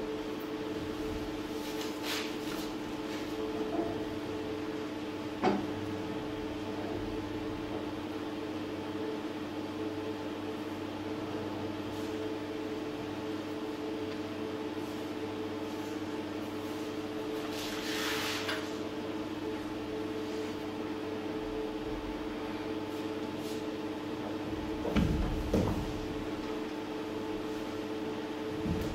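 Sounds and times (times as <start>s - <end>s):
steady hum of held tones: 0.0s - 28.9s.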